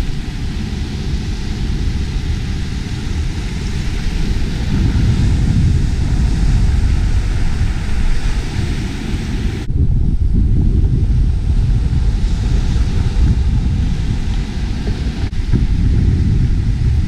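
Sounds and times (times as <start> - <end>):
surf washing up beach: 0.0 - 9.7, 10.7 - 17.0
wind buffeting microphone: 0.0 - 17.0.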